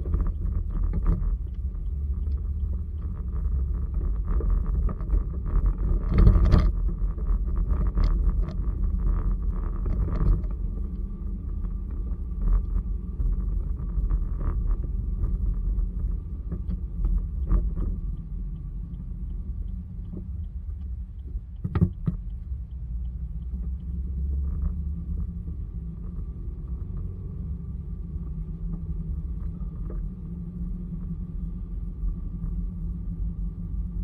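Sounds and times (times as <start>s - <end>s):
vehicle rumble from inside: 0.0s - 34.0s.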